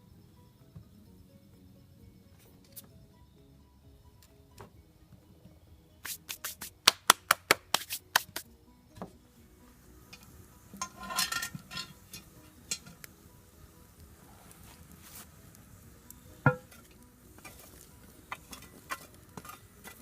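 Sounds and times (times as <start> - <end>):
quiet background music: 0.0 - 20.0.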